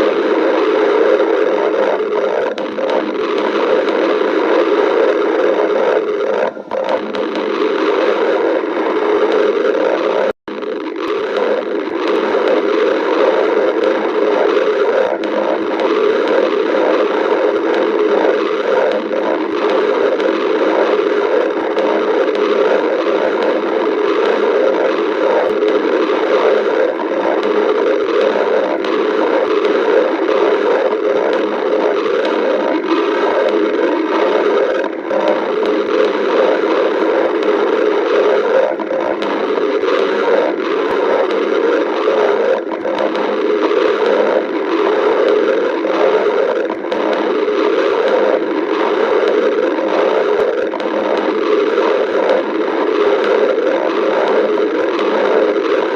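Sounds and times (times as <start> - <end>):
stomach growling: 0.0 - 55.9.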